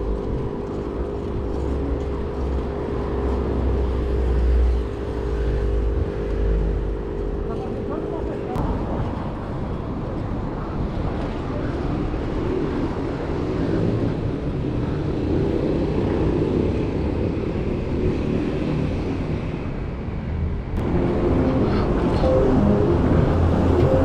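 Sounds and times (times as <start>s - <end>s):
road noise rumble: 0.0s - 24.0s.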